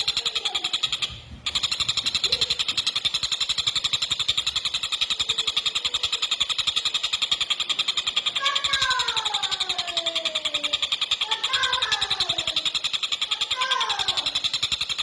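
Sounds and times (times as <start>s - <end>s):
kingfisher rattling chatter: 0.0s - 15.0s.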